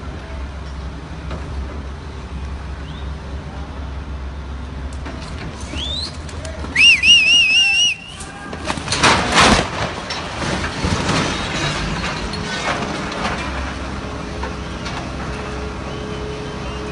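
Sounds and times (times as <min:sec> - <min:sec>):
crane engine rumble: 0:00.0 - 0:16.9.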